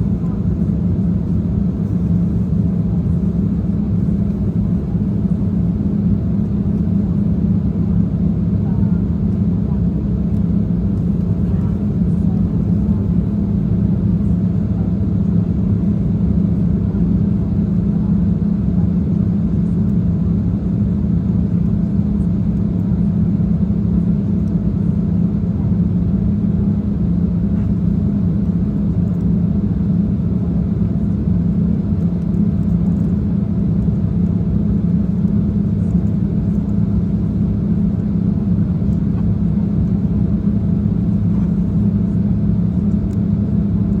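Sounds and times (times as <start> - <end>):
jet engine drone: 0.0 - 18.8, 22.0 - 44.0.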